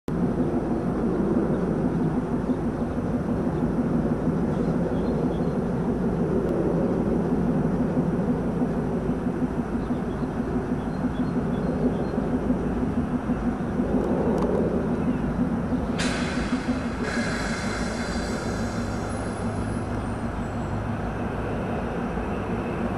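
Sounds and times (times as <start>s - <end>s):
diesel train engine drone: 0.1s - 22.9s.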